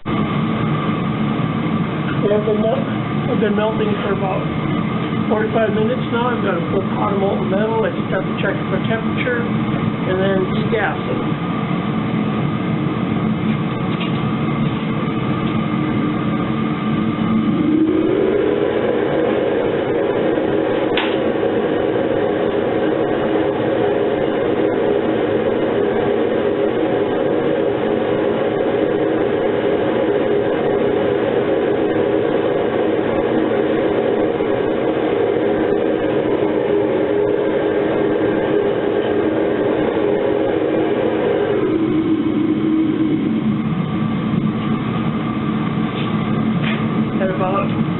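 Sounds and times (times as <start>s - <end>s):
furnace burner rumbling: 0.0s - 47.9s.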